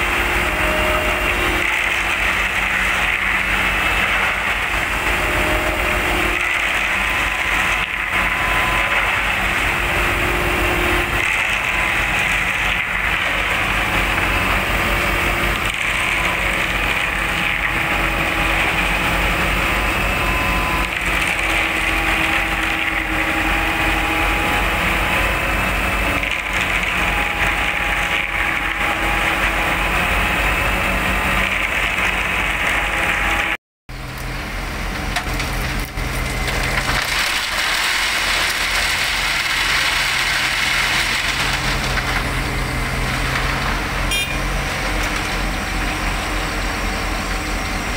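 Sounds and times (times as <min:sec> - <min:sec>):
concrete mixer trucks running: 0:00.0 - 0:47.9
excavator engine and hydraulics: 0:00.0 - 0:47.9.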